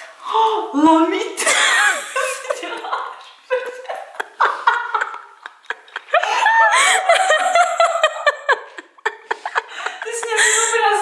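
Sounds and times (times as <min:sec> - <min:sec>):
woman giggling: 0:01.4 - 0:11.0.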